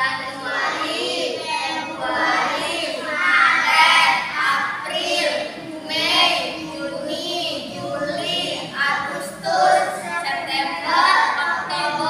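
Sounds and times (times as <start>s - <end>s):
children and woman singing: 0.0s - 12.0s.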